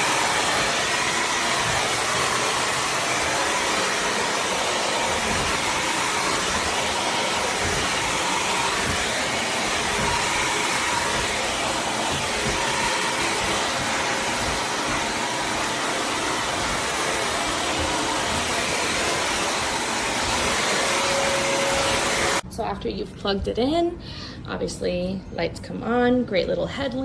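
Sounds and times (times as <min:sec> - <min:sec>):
vacuum motor running with whine: 0:00.0 - 0:22.4.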